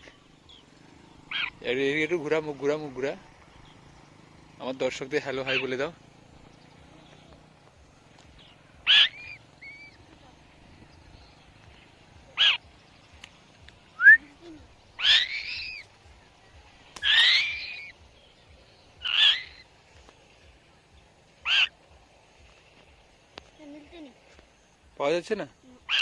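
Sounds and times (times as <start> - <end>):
bird harsh rasping calls: 0.0 - 26.0.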